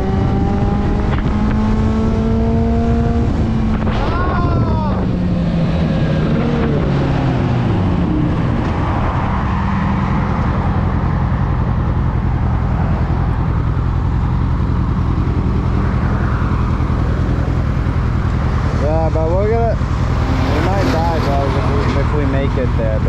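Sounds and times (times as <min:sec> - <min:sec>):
motorcycle engine running: 0:00.0 - 0:08.4, 0:10.2 - 0:23.0
wind rushing over microphone: 0:00.0 - 0:23.0.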